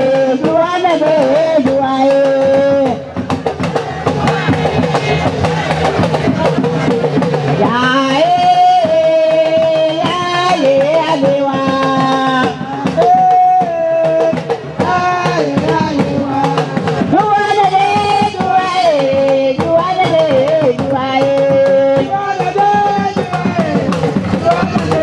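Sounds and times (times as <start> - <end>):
drums beating: 0.0 - 25.0.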